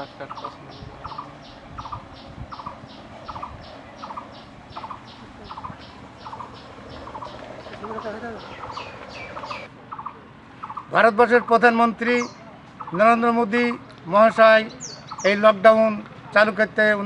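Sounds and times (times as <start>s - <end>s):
bird calling: 0.0s - 13.2s, 14.7s - 15.5s.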